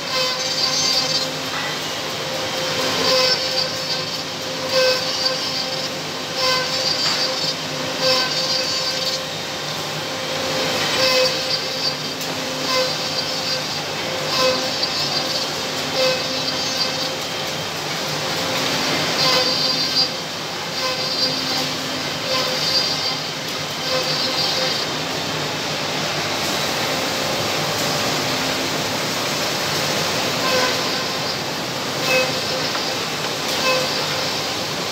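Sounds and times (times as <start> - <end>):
mortising machine running: 0.0 - 34.9.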